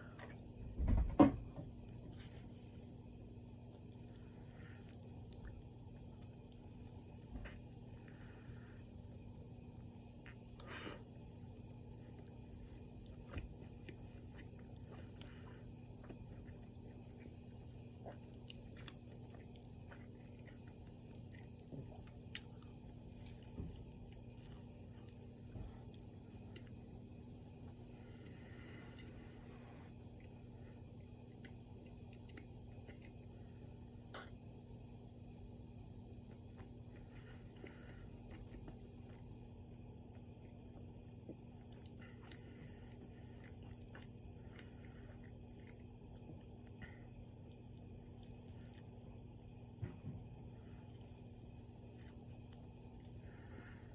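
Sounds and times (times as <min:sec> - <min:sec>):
steady low hum: 0:00.0 - 0:53.9
soft chewing clicks: 0:02.6 - 0:29.3, 0:29.9 - 0:34.4, 0:35.6 - 0:53.9.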